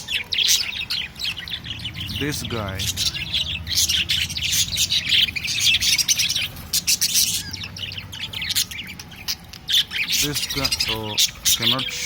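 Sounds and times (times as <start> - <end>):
budgerigars chirping and chattering: 0.0 - 12.0
steady low hum: 0.0 - 12.0.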